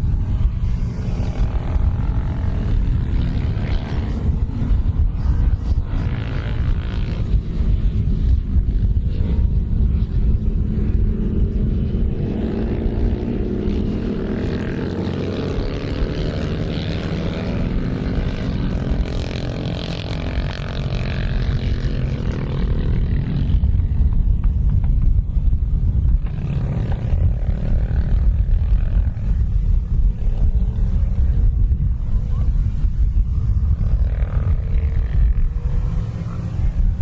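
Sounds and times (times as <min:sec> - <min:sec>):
motorcycle engine passing: 0:00.0 - 0:37.0.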